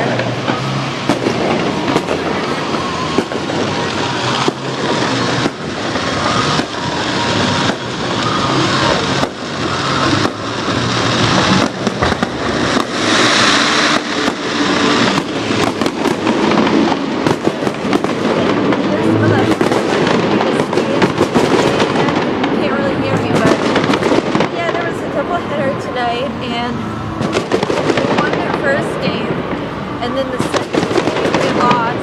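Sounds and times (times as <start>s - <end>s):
fireworks bangs: 0.0s - 32.0s
fireworks crackling: 0.0s - 32.0s.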